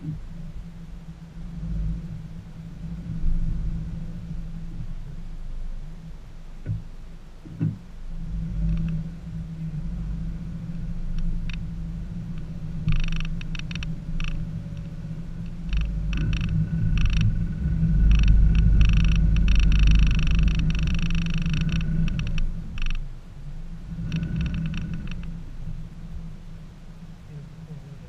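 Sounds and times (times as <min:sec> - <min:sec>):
car engine rumbling under load: 0:00.0 - 0:28.0.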